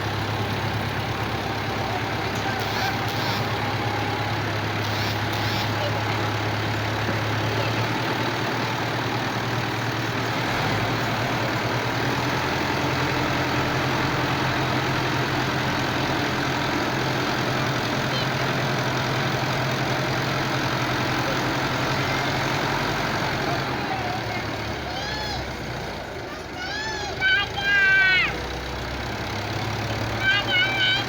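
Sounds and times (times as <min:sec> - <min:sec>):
tractor diesel engines droning: 0:00.0 - 0:31.0.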